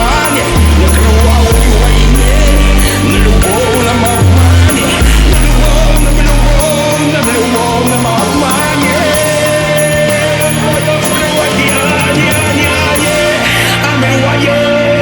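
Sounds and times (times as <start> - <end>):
heavy deep bass: 0.0 - 15.0
music with singing: 0.0 - 15.0.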